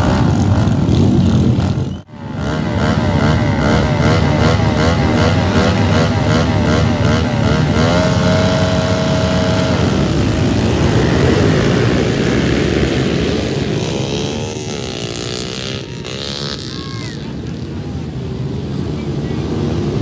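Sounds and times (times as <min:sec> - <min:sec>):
pit bikes revving: 0:00.0 - 0:20.0.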